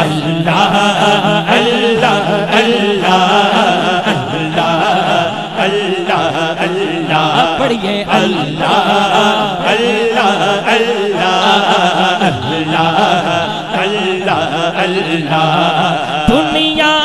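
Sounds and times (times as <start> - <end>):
man singing devotional chant: 0.0 - 17.0.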